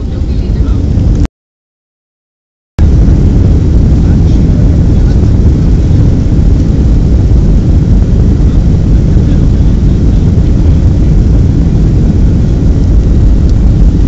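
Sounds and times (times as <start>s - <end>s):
airliner engines at high power: 0.0s - 1.3s, 2.8s - 14.0s.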